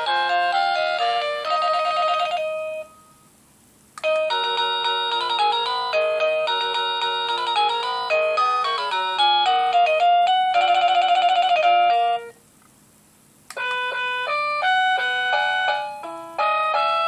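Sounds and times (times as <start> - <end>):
door chime electronic melody: 0.0 - 3.2, 4.0 - 12.4, 13.6 - 17.0.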